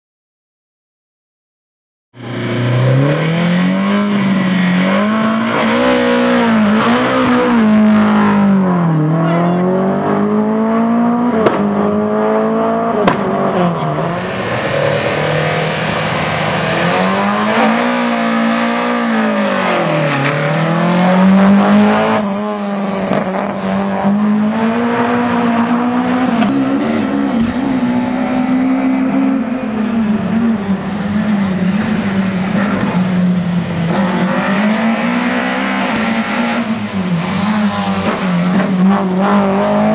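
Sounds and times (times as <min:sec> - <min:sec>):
rally car engine revving: 0:02.2 - 0:39.9.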